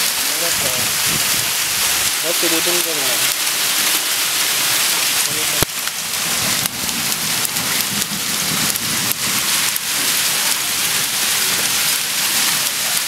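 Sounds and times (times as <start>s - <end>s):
heavy rain hissing: 0.0s - 13.0s
raindrops ticking on stone ledge: 0.0s - 13.0s.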